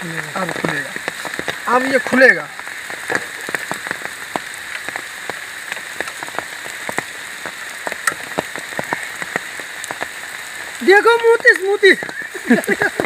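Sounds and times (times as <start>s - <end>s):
raindrops pattering: 0.0s - 13.0s
steady hiss of rain: 0.0s - 13.0s.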